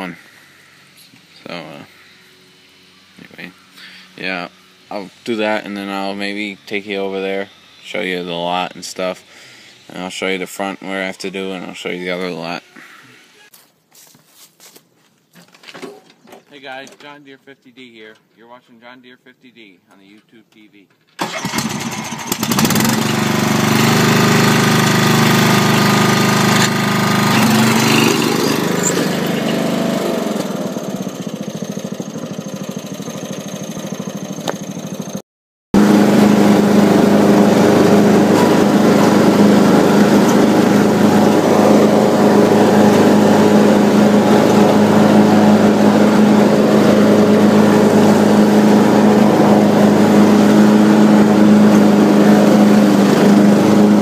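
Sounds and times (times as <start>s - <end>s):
riding mower engine running: 0.0s - 13.6s, 21.2s - 35.2s, 35.8s - 54.0s.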